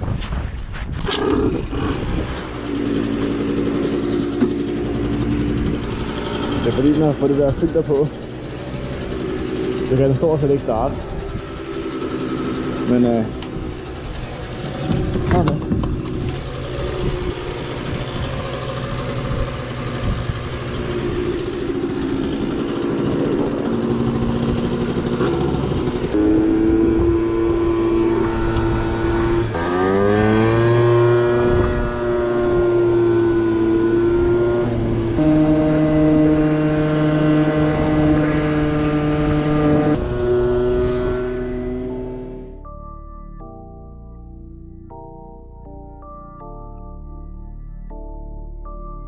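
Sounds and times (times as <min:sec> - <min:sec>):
two-stroke scooter engine accelerating: 0:01.0 - 0:42.6.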